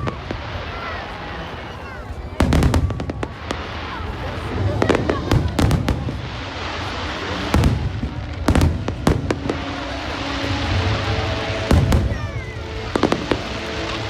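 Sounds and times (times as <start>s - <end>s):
fireworks banging: 0.0s - 14.0s
steady background din: 0.0s - 14.0s.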